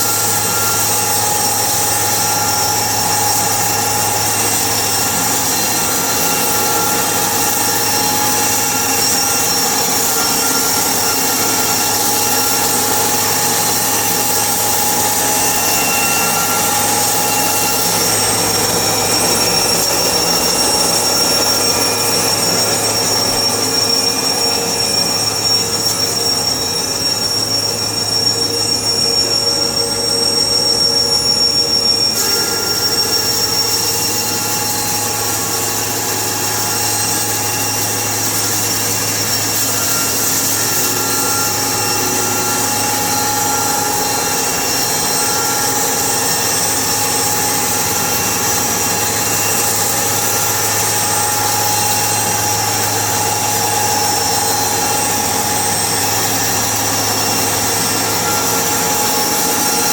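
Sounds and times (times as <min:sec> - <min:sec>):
sawmill machinery whining: 0:00.0 - 0:59.9.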